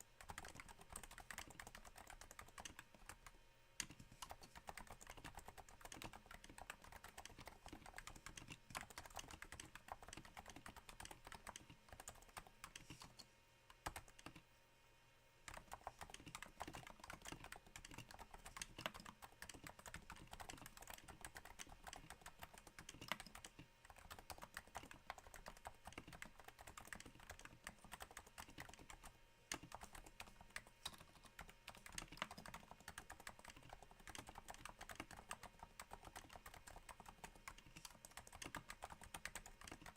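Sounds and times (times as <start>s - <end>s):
damped keyboard typing: 0.0s - 14.4s, 15.5s - 39.9s.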